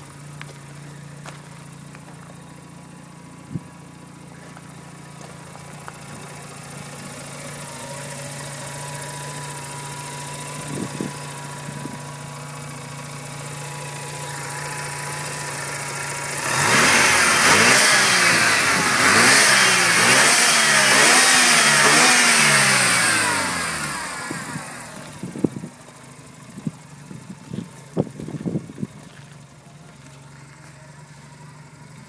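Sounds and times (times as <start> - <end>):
rotary engine revving and idling: 0.0 - 32.0.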